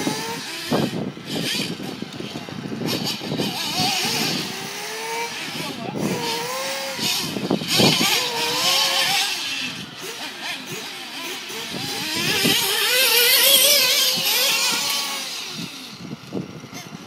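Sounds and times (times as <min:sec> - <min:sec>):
model car engines whining: 0:00.0 - 0:17.0.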